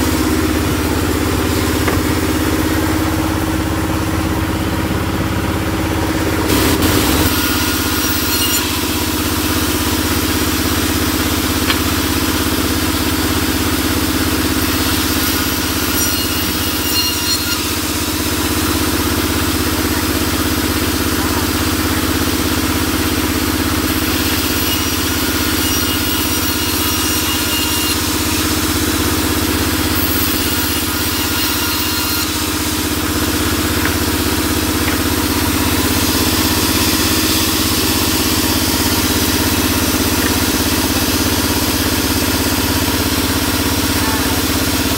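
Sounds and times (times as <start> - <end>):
band saw cutting boards: 0.0 - 44.9.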